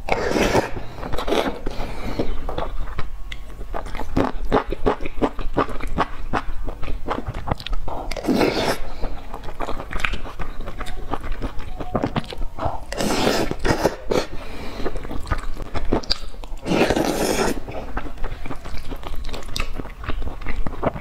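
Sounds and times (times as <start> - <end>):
wet chewing and lip-smacking: 0.1 - 21.0.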